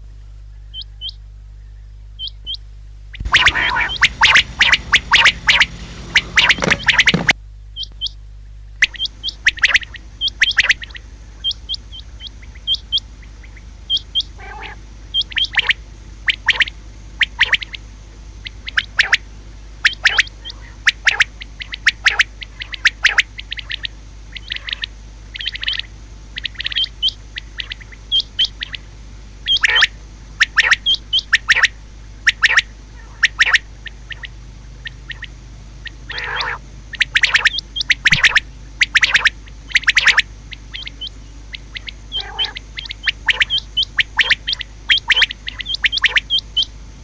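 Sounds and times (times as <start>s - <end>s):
faint steady hum: 0.0s - 47.0s
quail calling: 0.6s - 1.2s, 2.2s - 2.6s, 3.2s - 8.2s, 8.8s - 46.8s.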